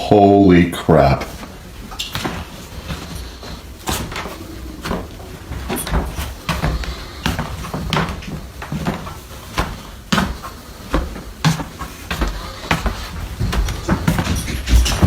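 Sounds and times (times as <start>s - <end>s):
low rumbling handling noise: 1.2s - 15.0s
irregular knocks and bumps: 1.3s - 15.0s.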